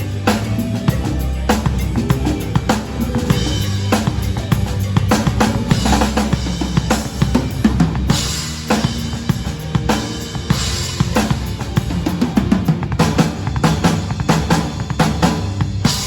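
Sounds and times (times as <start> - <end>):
backing track bass line: 0.0 - 16.0
cymbal washes: 0.0 - 16.0
drum kit rock groove: 0.0 - 16.0.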